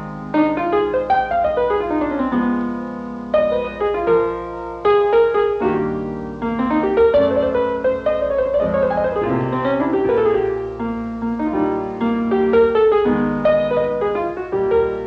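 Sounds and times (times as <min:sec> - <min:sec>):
slow blues piano: 0:00.0 - 0:15.0.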